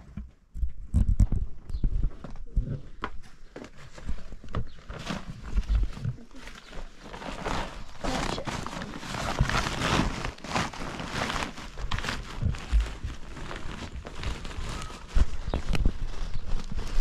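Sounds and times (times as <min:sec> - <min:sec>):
plastic sack rustling: 0:02.9 - 0:17.0.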